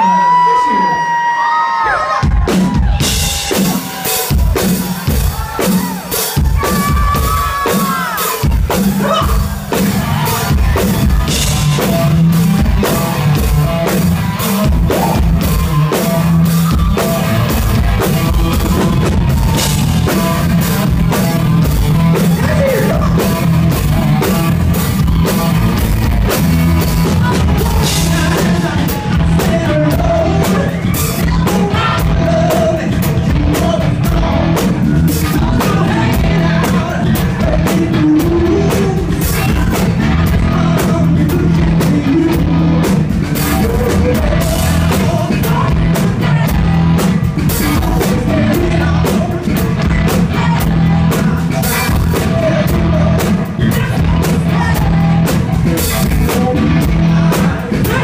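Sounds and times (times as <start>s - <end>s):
live rock music: 0.0s - 58.0s
person singing: 1.8s - 58.0s
pounding drum beat: 2.0s - 58.0s.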